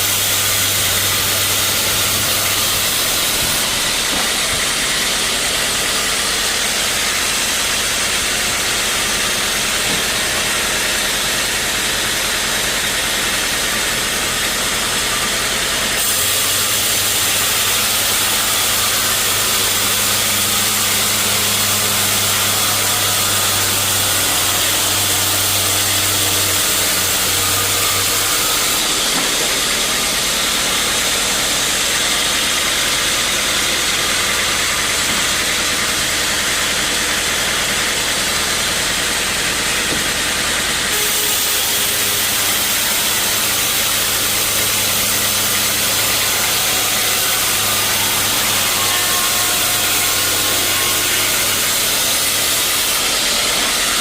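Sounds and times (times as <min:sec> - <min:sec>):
sawmill machinery hiss: 0:00.0 - 0:54.0.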